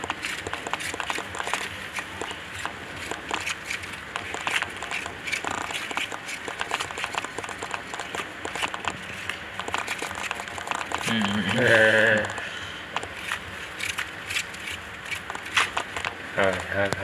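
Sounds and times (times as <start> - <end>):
hamster scrabbling on plastic: 0.0 - 17.0.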